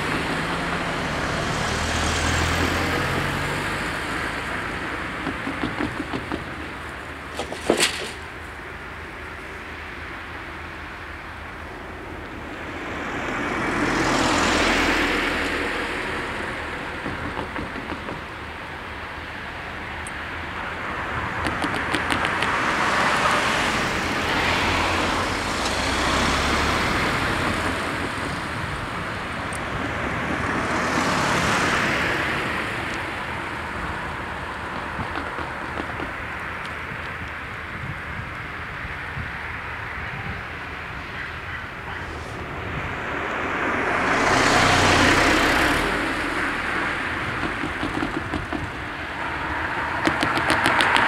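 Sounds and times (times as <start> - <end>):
cars passing: 0.0 - 51.0.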